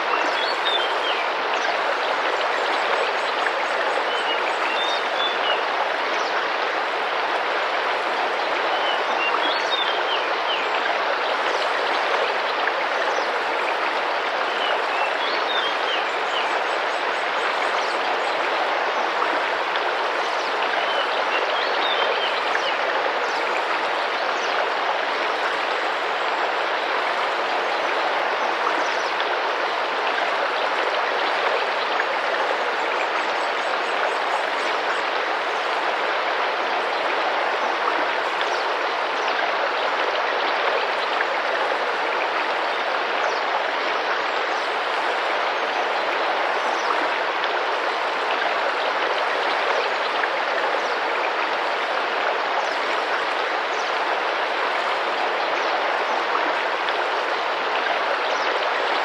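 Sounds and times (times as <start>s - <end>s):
river running and splashing: 0.0s - 59.0s.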